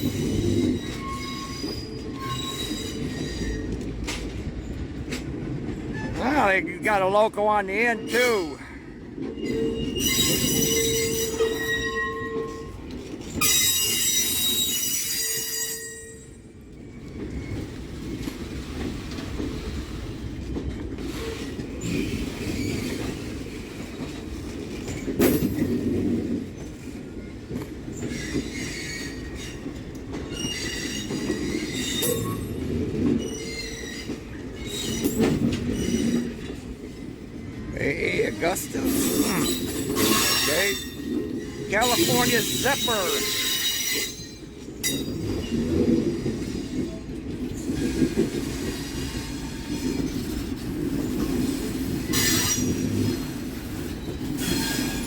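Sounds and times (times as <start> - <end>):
train wheels squealing: 0.0 - 4.7, 9.2 - 20.0, 21.0 - 37.6, 38.4 - 55.0
rumble of train cars: 0.0 - 55.0.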